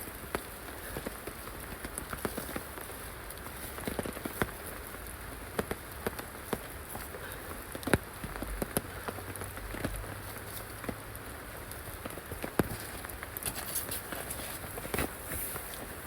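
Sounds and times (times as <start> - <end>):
large raindrops striking surface: 0.0 - 16.0
steady rain: 0.0 - 16.0.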